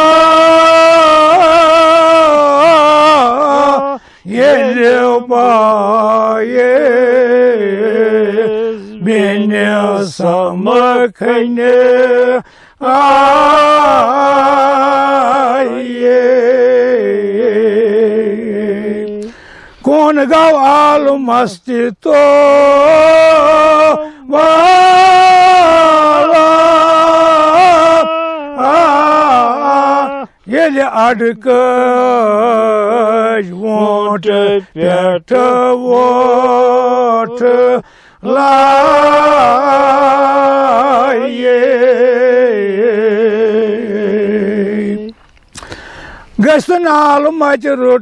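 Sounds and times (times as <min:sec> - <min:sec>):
elderly man singing unaccompanied: 0:00.0 - 0:45.2, 0:46.4 - 0:48.0.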